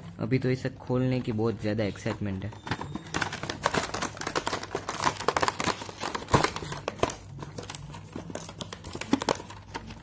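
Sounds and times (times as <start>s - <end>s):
plastic packaging crinkling: 2.0s - 10.0s.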